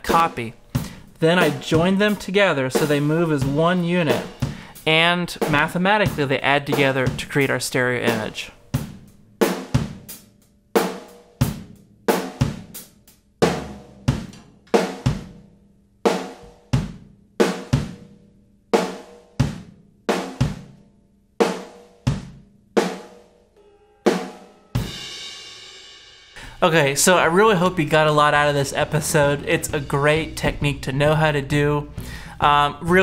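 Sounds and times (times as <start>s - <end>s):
acoustic drum kit playing: 0.0s - 15.5s, 16.1s - 18.2s, 18.8s - 20.8s, 21.4s - 33.0s.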